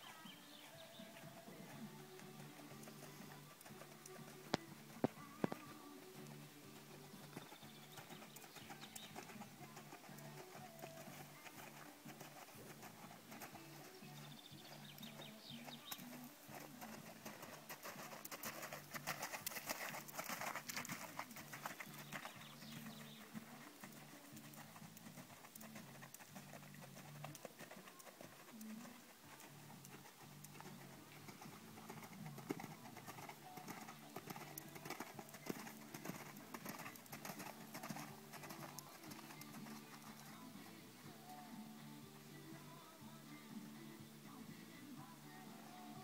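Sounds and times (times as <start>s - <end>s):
horse hoofbeats on sand: 0.4s - 41.8s.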